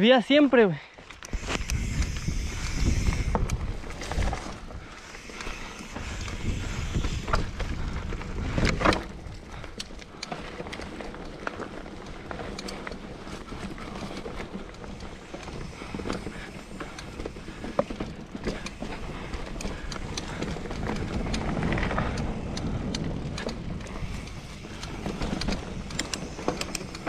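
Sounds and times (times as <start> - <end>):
bike tyres on dirt and leaves: 0.0 - 27.0
bike rattling over bumps: 1.0 - 27.0.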